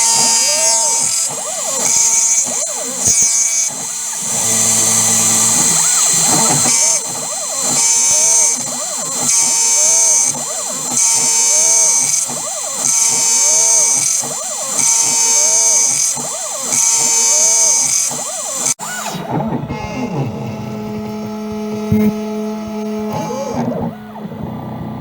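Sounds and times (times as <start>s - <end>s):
mill spindle and cutter noise: 0.0s - 25.0s
stepper motors whining: 0.0s - 25.0s.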